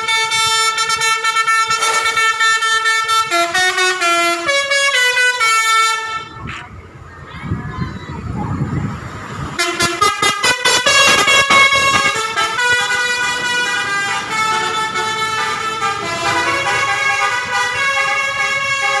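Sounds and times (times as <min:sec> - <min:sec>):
musical air horn playing tune: 0:00.0 - 0:06.3, 0:09.6 - 0:19.0.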